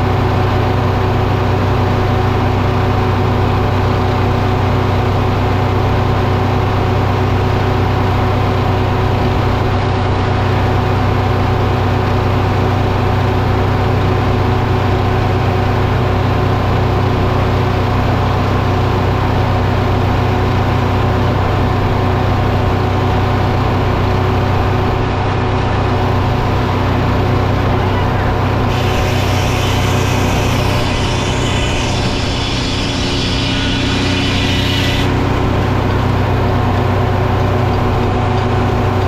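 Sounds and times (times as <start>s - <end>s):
engine running steadily: 0.0s - 39.0s.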